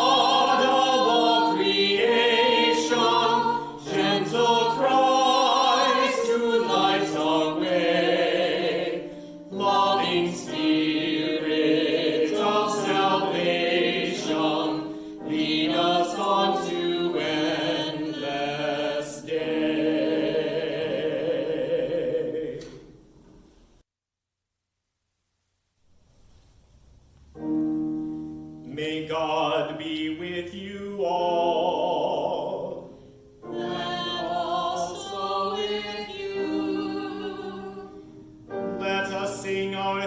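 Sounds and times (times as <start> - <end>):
choir singing a hymn: 0.0 - 23.2, 28.7 - 40.0.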